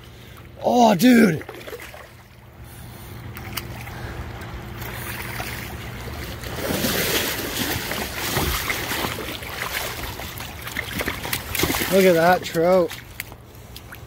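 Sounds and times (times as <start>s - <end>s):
fish thrashing and splashing in water: 1.3s - 14.0s.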